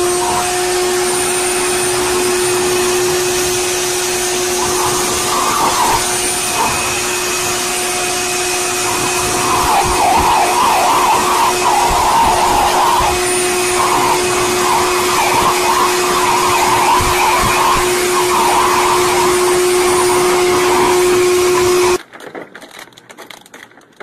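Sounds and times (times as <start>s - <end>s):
electric blow dryer running: 0.0s - 22.0s.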